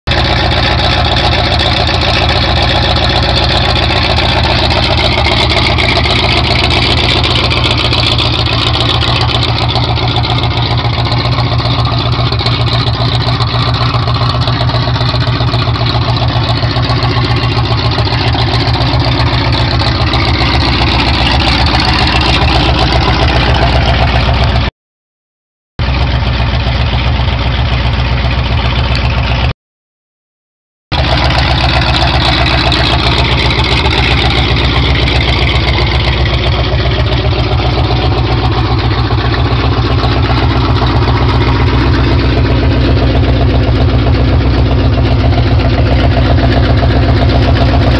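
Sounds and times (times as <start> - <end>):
engine idling: 0.0 - 24.7, 25.8 - 29.5, 30.9 - 47.9.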